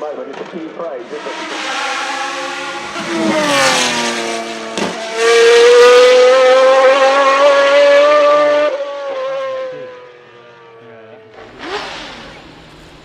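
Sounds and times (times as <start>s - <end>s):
race car engine revving: 0.4s - 13.0s.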